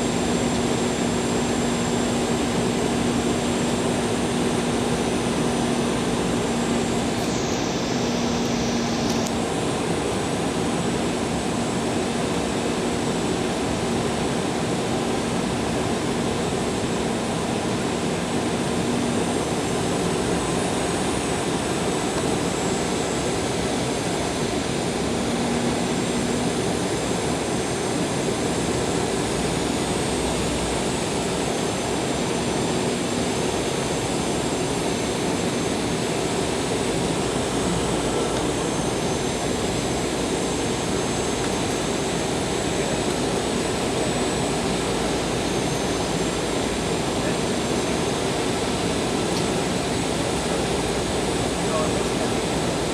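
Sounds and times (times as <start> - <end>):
jet airliner engine noise: 0.0 - 52.9.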